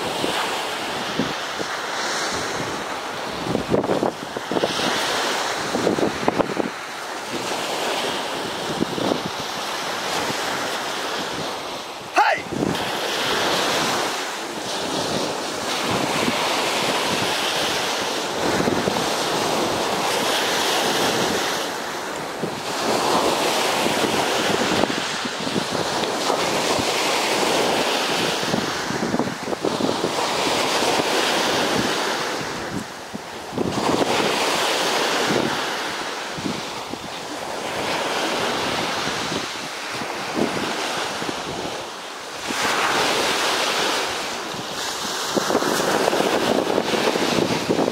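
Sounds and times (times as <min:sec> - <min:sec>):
surf washing onto beach: 0:00.0 - 0:47.9
wind buffeting microphone: 0:00.0 - 0:47.9.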